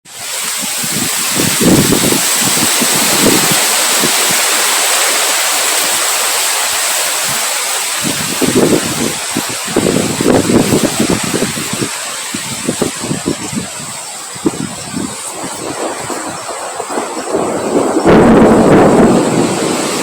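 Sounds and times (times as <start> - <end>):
gusts buffeting microphone: 0.1 - 20.0
wind rushing hiss: 0.1 - 20.0.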